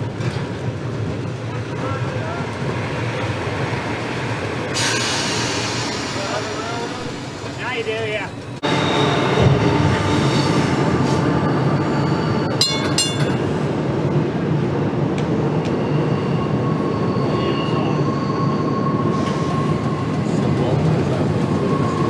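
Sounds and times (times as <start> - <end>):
train rumbling over steel bridge: 0.0 - 22.0.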